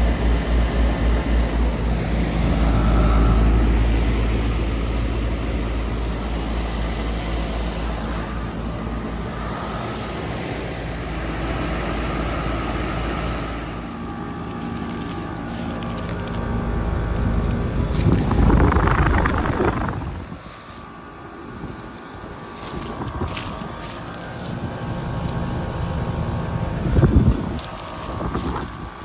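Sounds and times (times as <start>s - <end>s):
compressor hum: 0.0s - 29.0s
fan whoosh: 0.0s - 29.0s.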